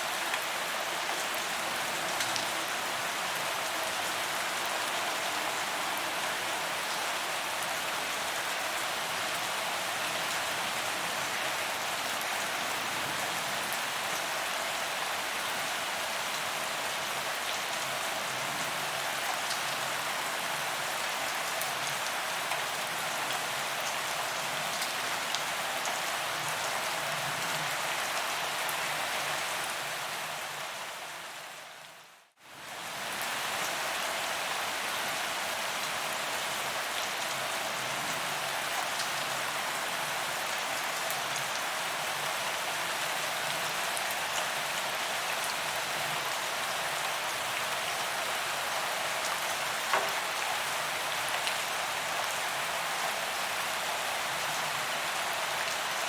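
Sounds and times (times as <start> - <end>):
rain on pavement: 0.0 - 31.0, 32.5 - 56.0.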